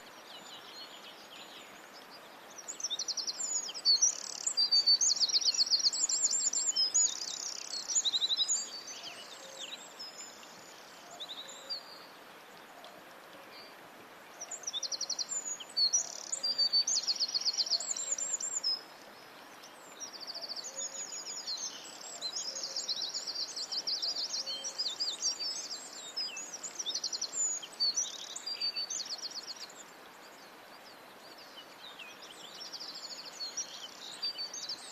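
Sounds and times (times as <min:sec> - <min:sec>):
faint steady hiss: 0:00.0 - 0:34.9
songbirds trilling and chirping: 0:00.0 - 0:34.9.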